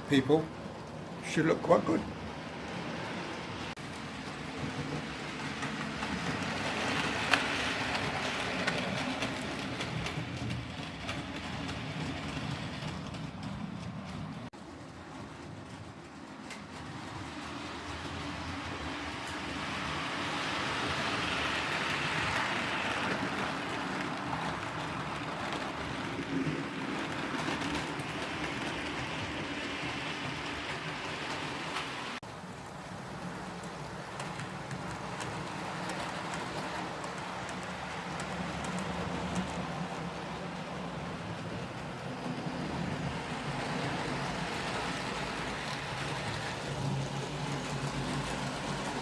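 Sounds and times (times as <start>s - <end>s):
model train rumbling on rails: 0.0s - 49.0s.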